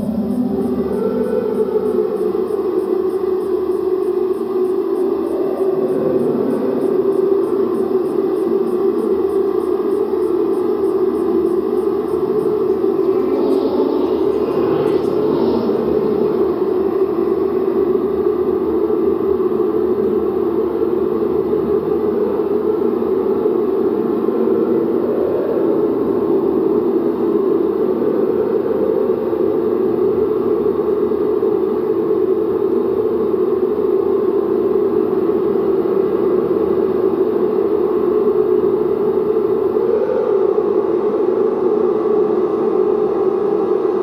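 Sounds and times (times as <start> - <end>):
droning room resonance hum: 0.0 - 44.0.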